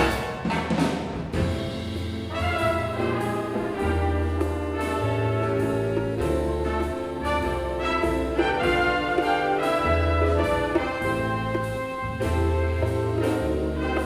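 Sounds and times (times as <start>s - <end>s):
bass line: 0.0s - 14.0s
big band jazz playing: 0.0s - 14.0s
brass holding long chords: 1.5s - 14.0s.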